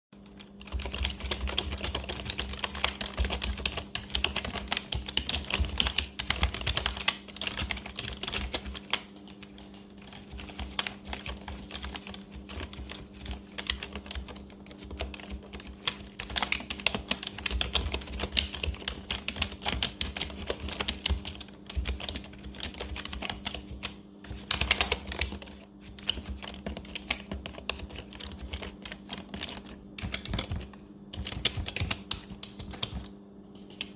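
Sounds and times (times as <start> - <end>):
faint steady hum: 0.2 - 33.9.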